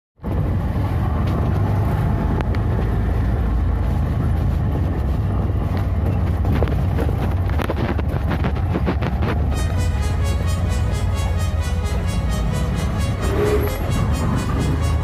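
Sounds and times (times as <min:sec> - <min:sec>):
small engine rumbling: 0:00.2 - 0:15.0.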